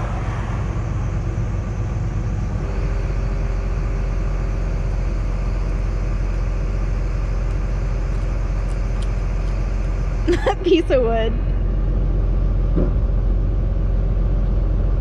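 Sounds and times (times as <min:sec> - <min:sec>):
hydraulic whine: 0:00.0 - 0:14.7
excavator diesel engine running: 0:00.0 - 0:15.0.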